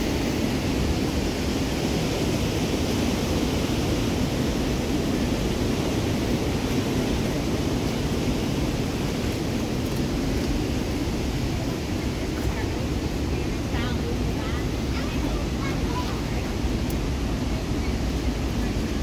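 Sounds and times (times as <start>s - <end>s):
river whitewater roaring: 0.0s - 19.0s.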